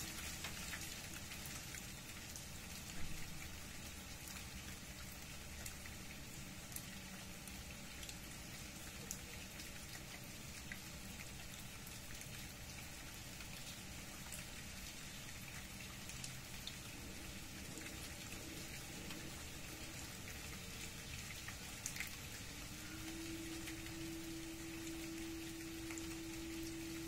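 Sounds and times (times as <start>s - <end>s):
rain falling on leaves: 0.0s - 27.0s.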